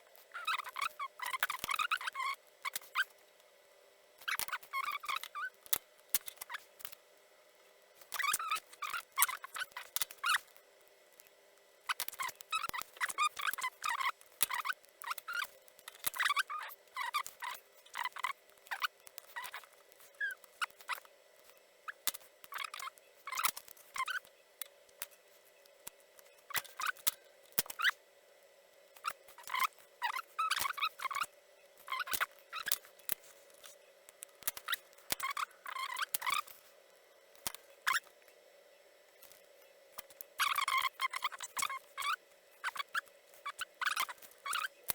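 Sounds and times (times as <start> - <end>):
tools clicking and scratching on circuit board: 0.1 - 3.5, 4.2 - 7.0, 8.0 - 28.0, 28.8 - 38.4, 39.1 - 44.9.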